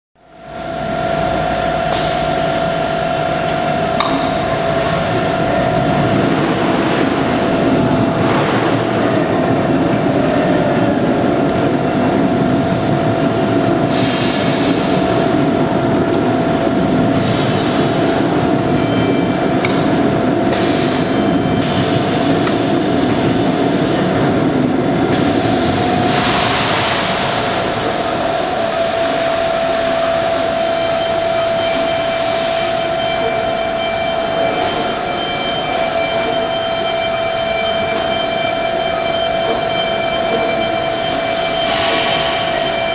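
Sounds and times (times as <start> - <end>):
mechanical hum: 0.2 - 42.9.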